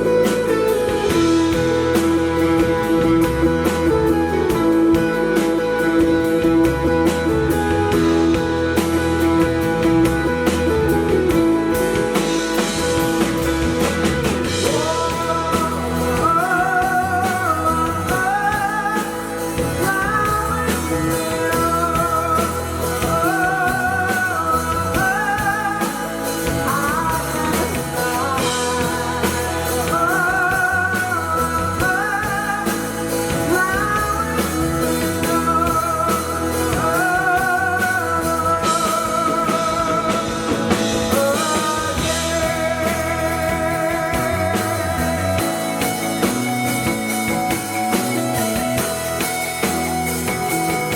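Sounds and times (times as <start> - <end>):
rock band playing live: 0.0 - 50.9.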